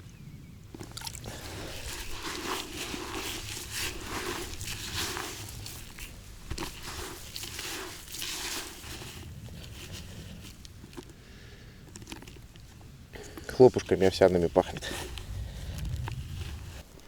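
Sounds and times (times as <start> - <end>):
hands kneading crumbly bait: 0.7 - 17.0.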